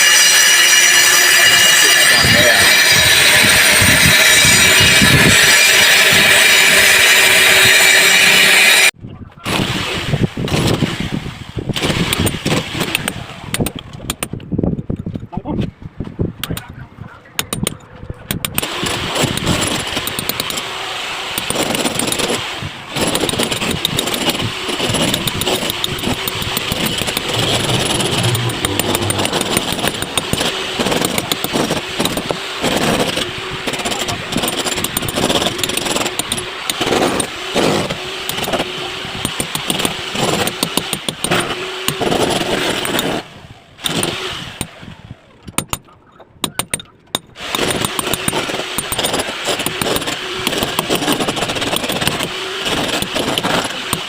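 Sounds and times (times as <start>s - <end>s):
angle grinder cutting masonry: 0.0s - 9.9s, 18.3s - 44.8s, 46.6s - 54.0s.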